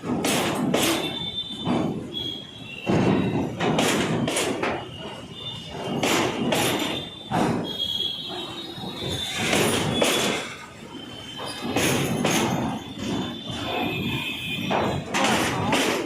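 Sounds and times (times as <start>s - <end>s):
high-pitched wheel squeal: 1.0s - 3.6s, 4.8s - 15.1s.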